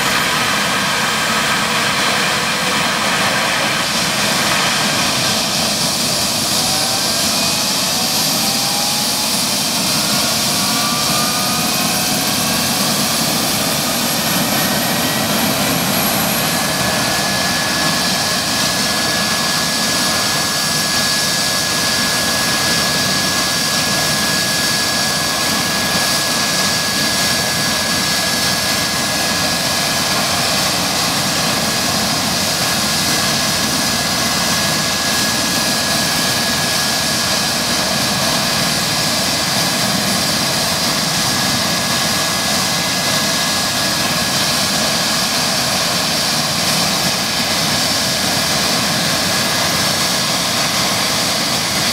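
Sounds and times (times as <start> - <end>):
helicopter engine rushing noise: 0.0 - 51.9
high-pitched turbine whine: 0.0 - 51.9.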